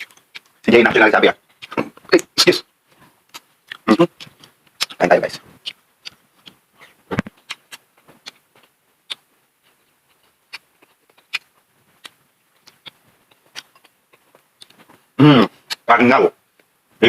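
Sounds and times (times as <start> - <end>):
wet chewing mouth noises: 0.0 - 0.6, 1.4 - 2.4, 3.0 - 15.9.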